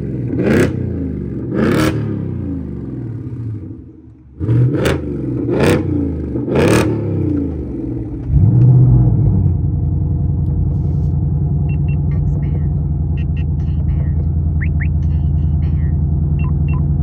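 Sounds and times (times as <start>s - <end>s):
car engine revving: 0.0s - 17.0s
car exhaust low rumble: 0.0s - 17.0s.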